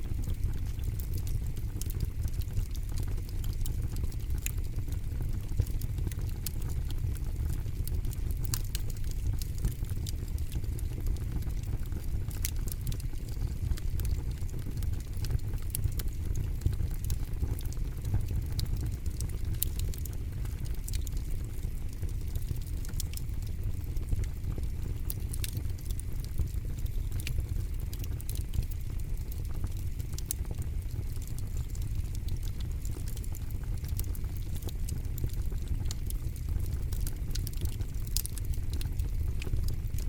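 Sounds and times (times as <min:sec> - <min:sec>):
burning wood crackling and popping: 0:00.0 - 0:40.0
campfire flames rumbling: 0:00.0 - 0:40.0.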